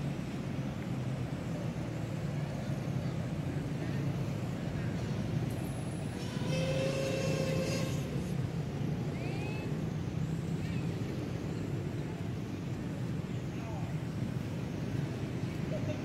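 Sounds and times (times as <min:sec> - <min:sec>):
traffic engine hum: 0:00.0 - 0:16.0.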